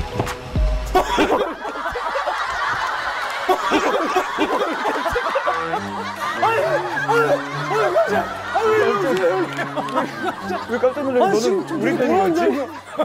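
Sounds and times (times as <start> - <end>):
men laughing: 0.9 - 13.0.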